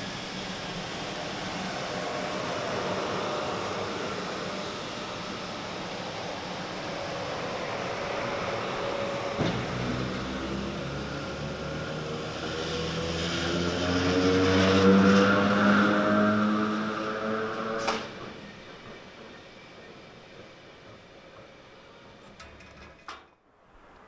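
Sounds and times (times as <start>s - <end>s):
traction motor whine: 0.0s - 20.0s
electric train passing: 0.0s - 24.0s.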